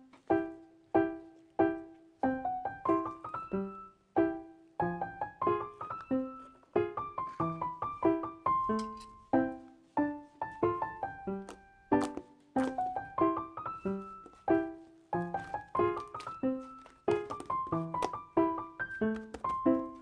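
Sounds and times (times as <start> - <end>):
slow solo piano music: 0.0 - 20.0.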